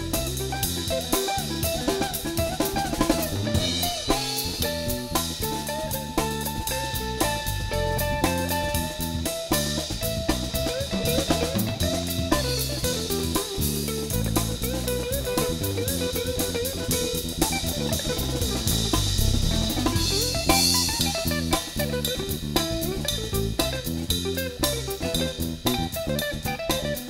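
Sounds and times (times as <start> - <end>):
drum kit with cymbals: 0.0 - 27.0
electric bass guitar: 0.0 - 27.0
electric guitar lead line: 0.0 - 27.0.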